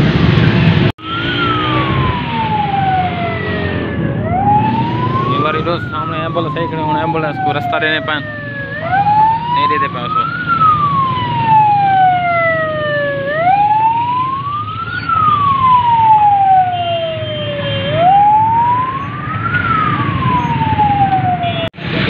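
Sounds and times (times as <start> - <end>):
traffic rumble: 0.0 - 22.0
ambulance siren wailing: 1.0 - 21.8.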